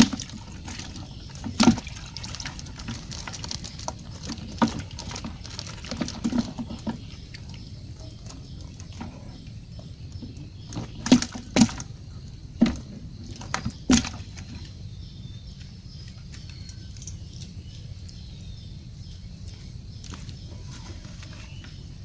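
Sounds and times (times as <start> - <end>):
background noise: 0.0 - 22.0.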